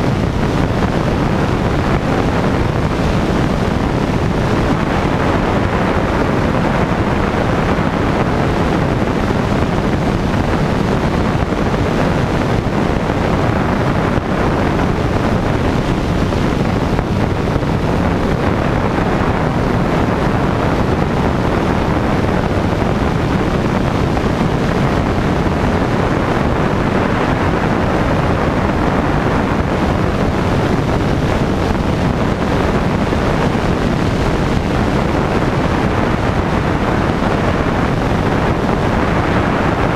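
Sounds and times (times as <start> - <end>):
propeller aircraft engine: 0.0 - 39.9
wind rushing over microphone: 0.0 - 39.9.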